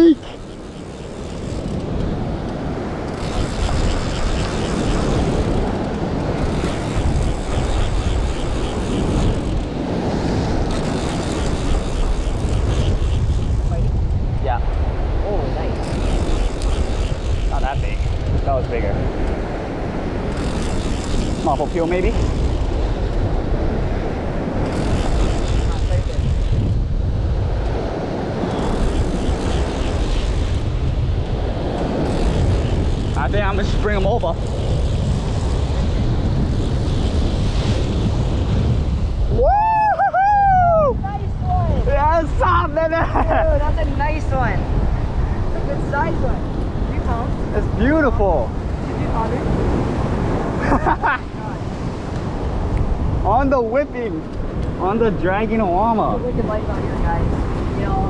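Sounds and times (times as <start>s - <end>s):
surf washing against rocks: 0.0s - 39.8s, 41.0s - 58.0s
wind buffeting microphone: 0.0s - 58.0s.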